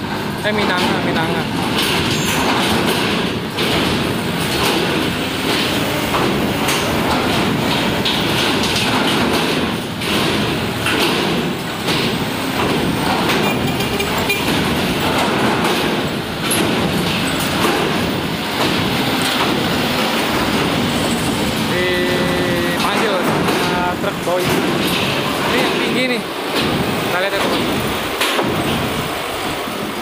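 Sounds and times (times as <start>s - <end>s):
heavy vehicle diesel engines: 0.0s - 30.0s
metallic knocks from loading ramp: 0.1s - 29.1s.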